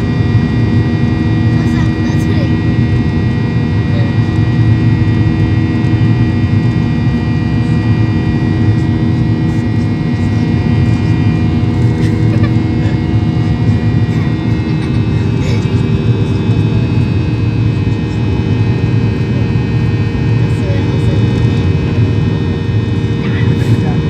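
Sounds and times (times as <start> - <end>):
jet cabin engine rumble: 0.0 - 24.0.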